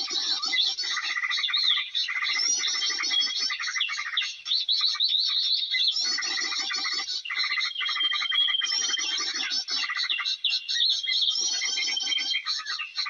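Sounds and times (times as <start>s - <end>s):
small birds chirping and trilling: 0.0s - 13.0s.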